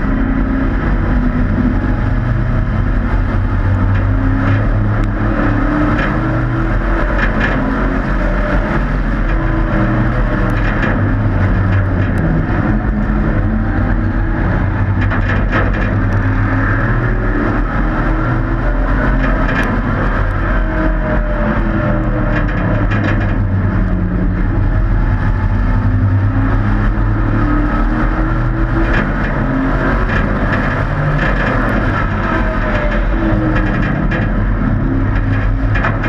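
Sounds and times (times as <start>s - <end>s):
model race truck engines droning: 0.0s - 36.0s.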